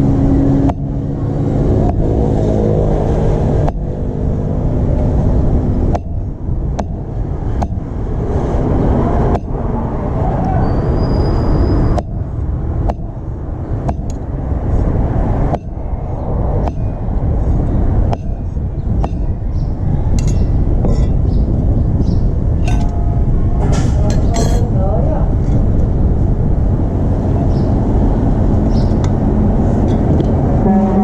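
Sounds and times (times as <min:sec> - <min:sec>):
vehicle engines running: 0:00.0 - 0:31.0.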